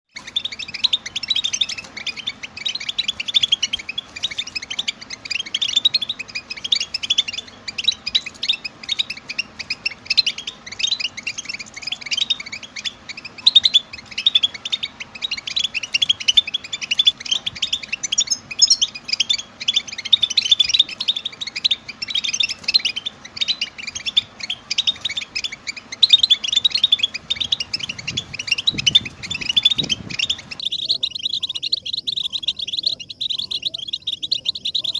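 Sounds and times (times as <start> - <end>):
goldfinches twittering: 0.1 - 34.9.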